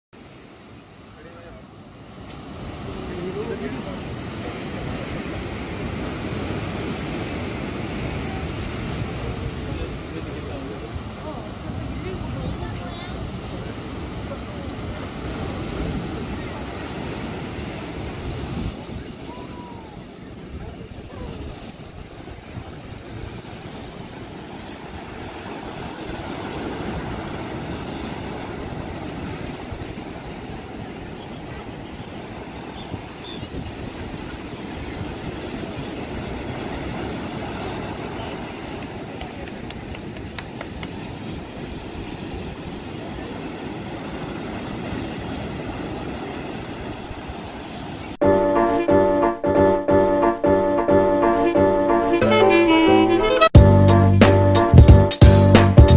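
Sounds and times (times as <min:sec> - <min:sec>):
waves breaking on beach: 0:00.2 - 0:53.4.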